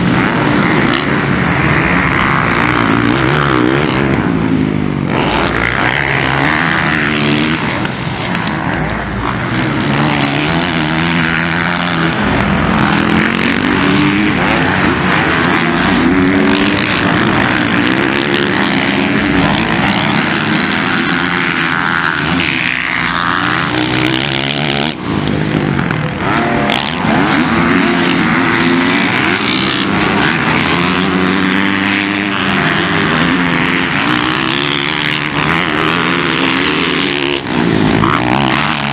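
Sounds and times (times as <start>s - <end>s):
motocross engines revving: 0.0s - 38.9s.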